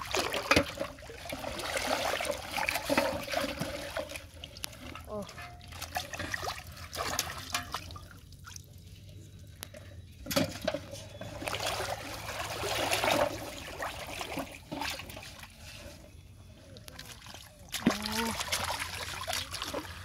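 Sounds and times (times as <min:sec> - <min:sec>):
pond water splashing and trickling: 0:00.0 - 0:20.0
water sloshing and pouring: 0:00.0 - 0:20.0.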